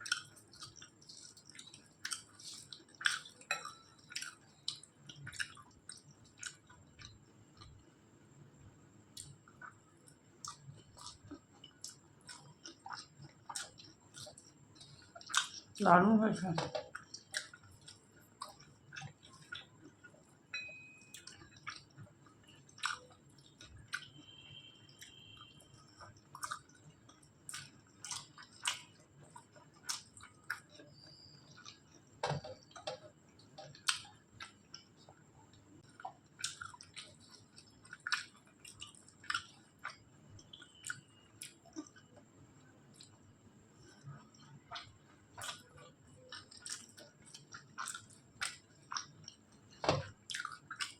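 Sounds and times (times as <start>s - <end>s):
person chewing food: 0.0s - 8.0s, 8.6s - 15.8s, 16.5s - 50.9s.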